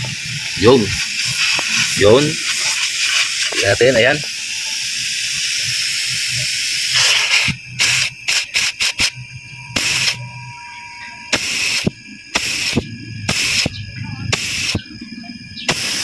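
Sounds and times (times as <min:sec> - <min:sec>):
gas hissing from tube: 0:00.0 - 0:10.7, 0:11.3 - 0:16.0
freezer compressor humming: 0:00.0 - 0:16.0.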